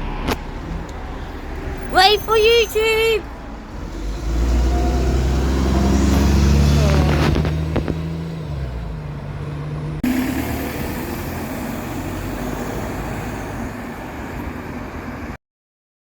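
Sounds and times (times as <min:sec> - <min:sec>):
bus engine running: 0:00.0 - 0:15.4
street traffic: 0:00.0 - 0:15.4.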